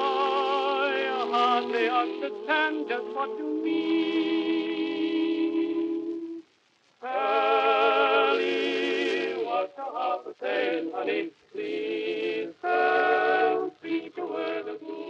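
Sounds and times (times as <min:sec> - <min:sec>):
background music with singing: 0:00.0 - 0:15.0.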